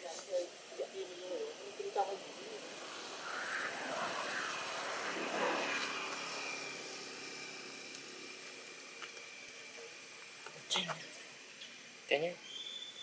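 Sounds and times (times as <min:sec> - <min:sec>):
distant motor vehicle passing: 0:00.8 - 0:11.9.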